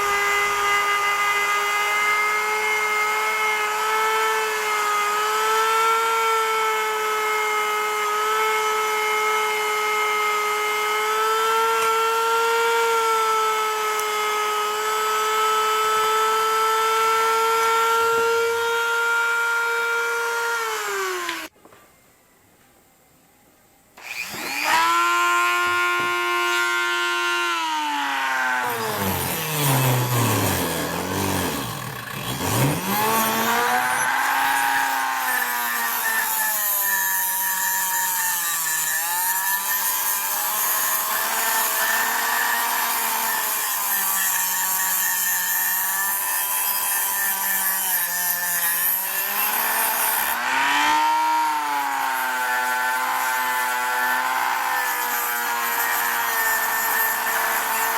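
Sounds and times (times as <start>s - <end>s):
power tool motor whining: 0.0s - 21.5s, 24.0s - 57.9s.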